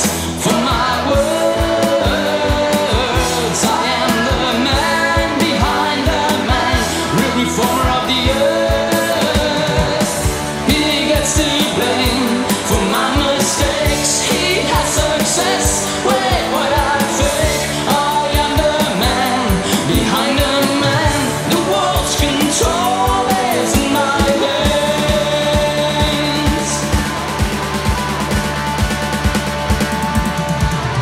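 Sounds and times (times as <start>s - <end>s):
drum beat: 0.0s - 31.0s
pitch-bending lead melody: 0.0s - 31.0s.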